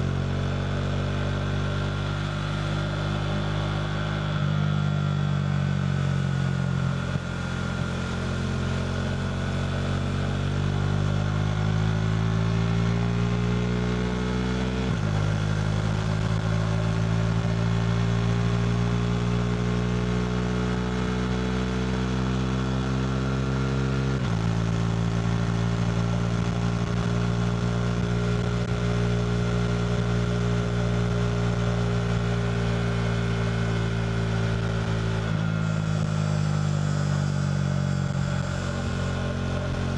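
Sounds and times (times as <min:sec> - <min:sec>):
motorcycle engine under way: 0:00.0 - 0:39.9.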